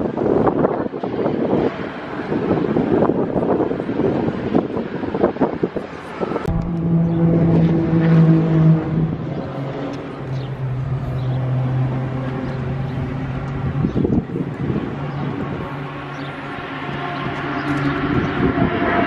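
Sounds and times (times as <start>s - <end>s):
vehicle engine droning: 0.0s - 19.0s
wind buffeting microphone: 0.0s - 19.0s.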